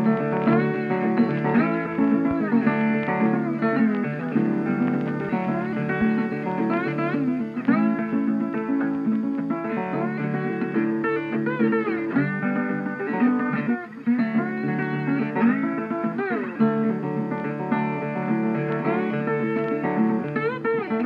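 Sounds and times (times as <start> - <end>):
guitar with sliding notes: 0.0 - 21.0.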